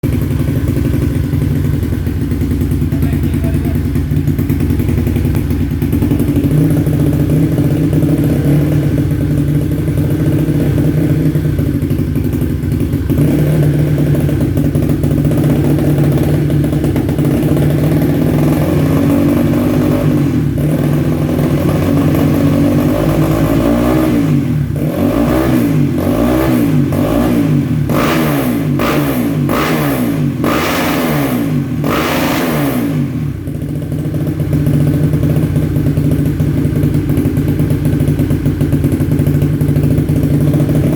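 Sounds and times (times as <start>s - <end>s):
dirt bike idling and revving: 0.0s - 40.9s.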